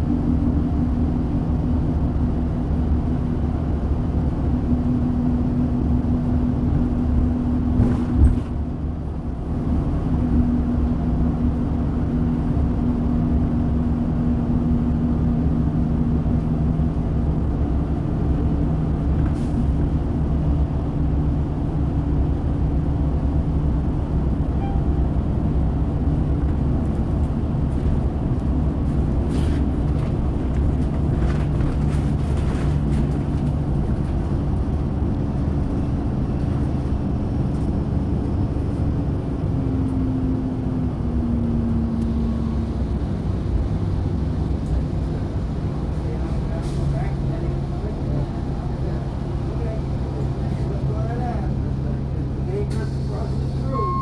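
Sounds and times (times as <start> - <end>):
bus engine deep rumble: 0.0 - 54.0.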